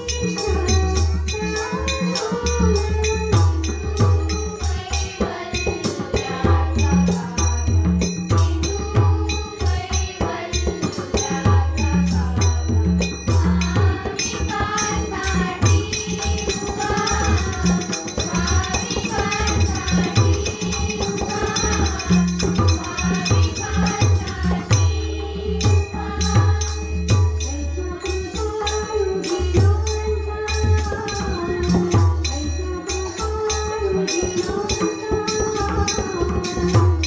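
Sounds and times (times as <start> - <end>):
jingling hand percussion: 0.0 - 37.0.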